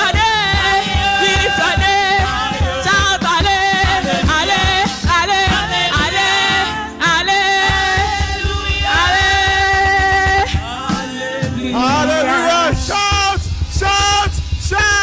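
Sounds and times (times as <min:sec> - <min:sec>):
gospel choir singing: 0:00.0 - 0:14.0
band accompaniment: 0:00.0 - 0:15.0
steady drum beat: 0:00.0 - 0:15.0.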